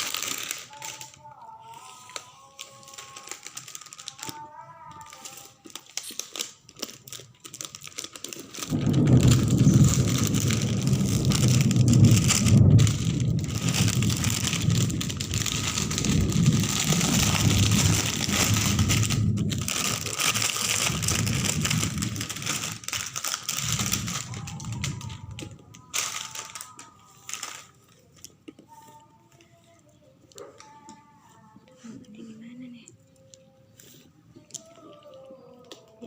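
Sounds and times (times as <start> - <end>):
plastic packaging crinkling: 0.0 - 31.5.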